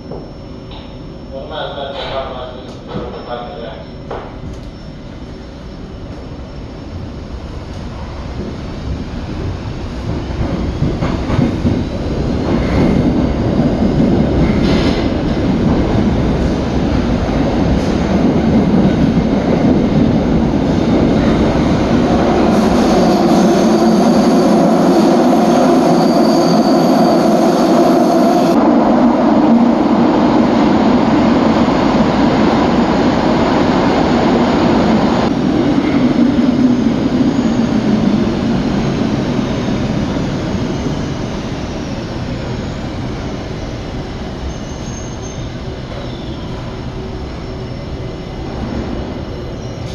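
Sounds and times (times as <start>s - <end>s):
metro car wheels rumbling on rail: 0.0s - 49.9s.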